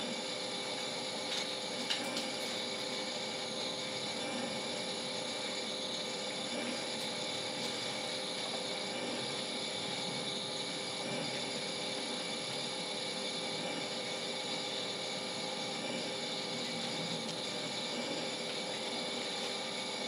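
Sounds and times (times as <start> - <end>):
coffee roaster whirring: 0.0 - 20.0.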